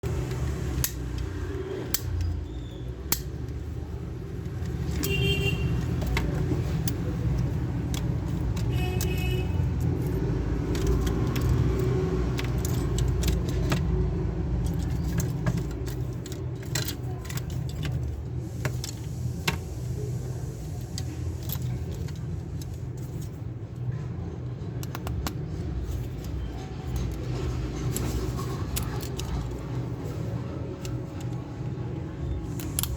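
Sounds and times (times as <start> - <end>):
toy gun parts clicking and rattling: 0.1 - 32.9.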